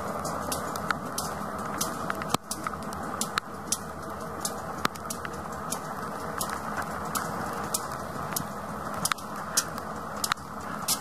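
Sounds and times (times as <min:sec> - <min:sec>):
rain falling: 0:00.0 - 0:11.0
raindrops ticking near microphone: 0:00.0 - 0:11.0.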